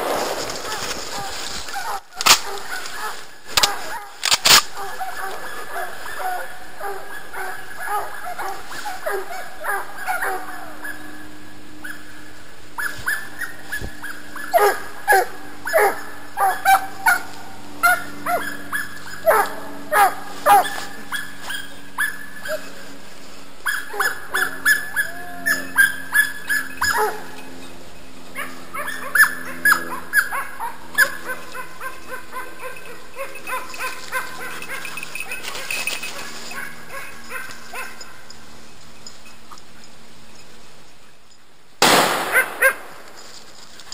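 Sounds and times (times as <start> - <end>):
dogs yelping and barking: 0.6 - 38.6, 42.3 - 43.0.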